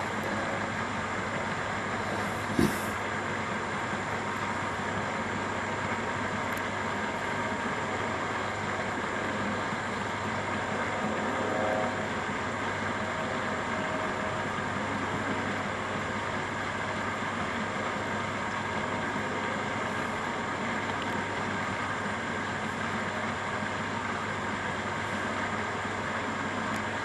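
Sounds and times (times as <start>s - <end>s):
aquarium pumps humming: 0.0s - 27.0s.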